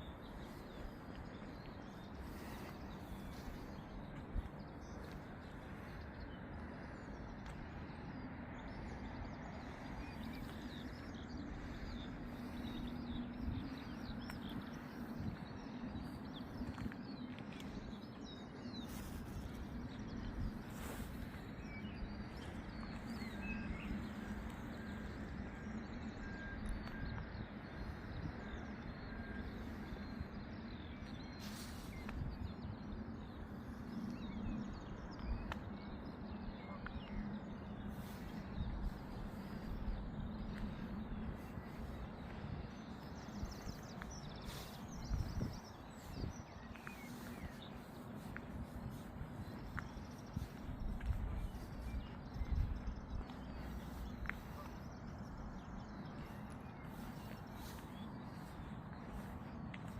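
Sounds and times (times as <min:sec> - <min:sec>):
faint bird chirps: 0:00.0 - 0:59.9
steady low hum: 0:00.0 - 0:59.9.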